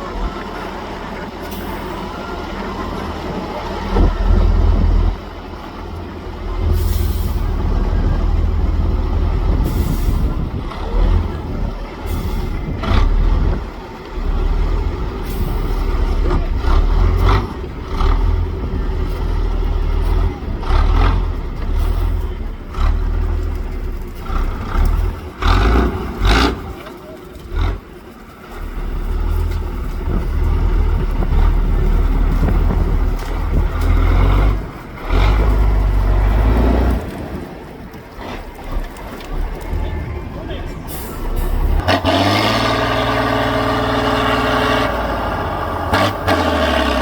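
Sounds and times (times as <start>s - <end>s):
truck engine under load: 0.0s - 47.0s.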